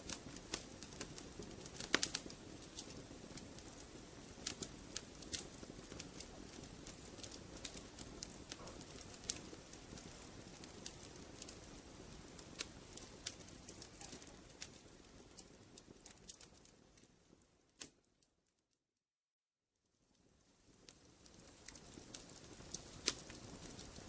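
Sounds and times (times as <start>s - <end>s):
fire crackling and popping: 0.0s - 18.6s, 19.9s - 24.0s
low steady hiss: 0.0s - 18.7s, 19.8s - 24.0s.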